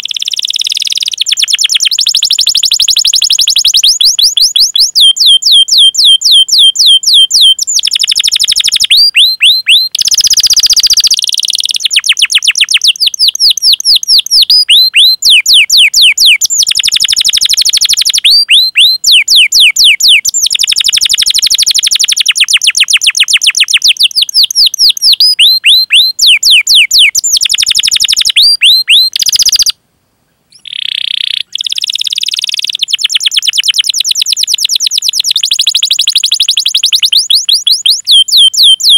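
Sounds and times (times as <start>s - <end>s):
canary singing chirps and trills: 0.0s - 29.8s, 30.5s - 38.9s.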